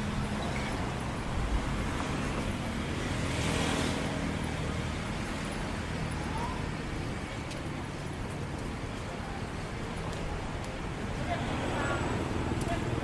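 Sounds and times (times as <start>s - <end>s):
vehicles passing on street: 0.0s - 13.0s.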